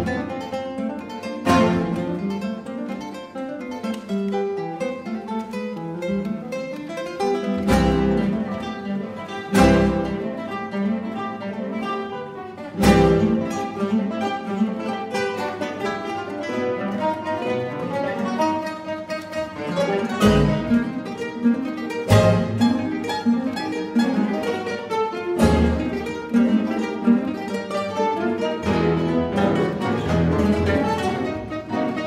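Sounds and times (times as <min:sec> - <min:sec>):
classical guitars plucking: 0:00.0 - 0:32.0.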